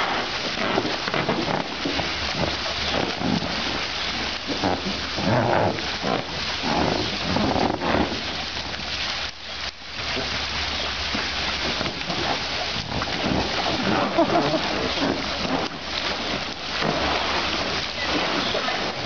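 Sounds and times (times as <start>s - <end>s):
hose spraying water: 0.0s - 19.0s
water splashing in a pool: 0.0s - 19.0s.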